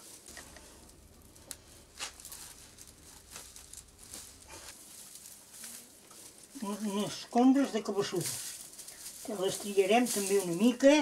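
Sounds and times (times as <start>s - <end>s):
broom bristles rustling: 0.0s - 11.0s.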